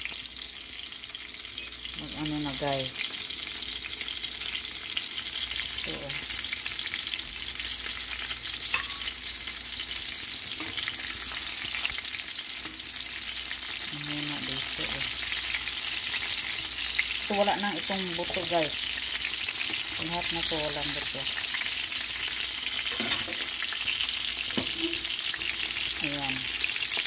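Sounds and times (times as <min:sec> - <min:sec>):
chicken sizzling in oil: 0:00.0 - 0:27.0.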